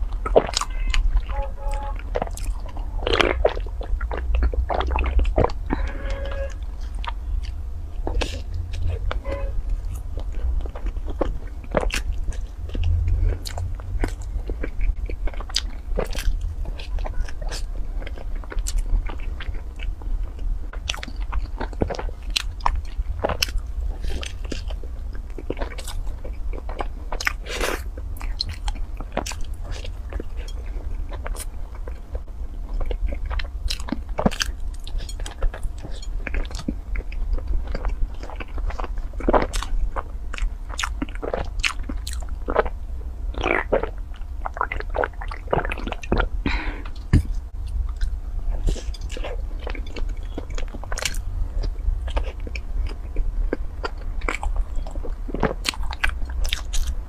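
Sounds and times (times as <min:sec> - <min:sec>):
biting and chewing bread: 0:00.0 - 0:57.0.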